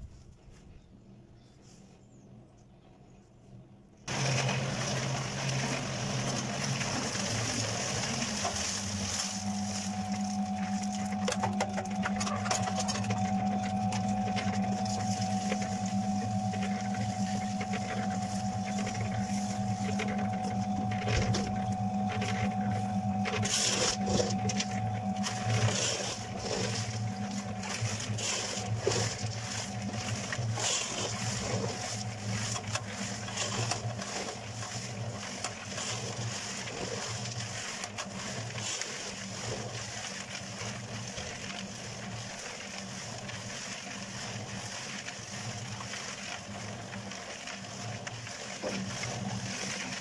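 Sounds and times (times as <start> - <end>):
cement mixer motor hum: 4.1 - 50.0
wet concrete churning in drum: 4.1 - 50.0.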